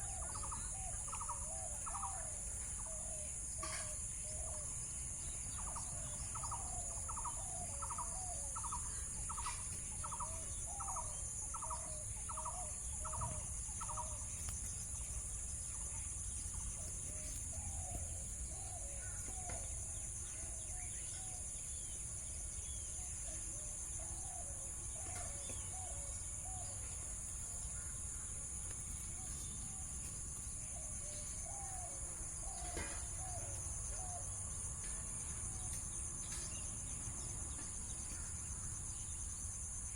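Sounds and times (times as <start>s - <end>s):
scattered bird calls: 0.0s - 39.5s
insects droning: 0.0s - 39.9s.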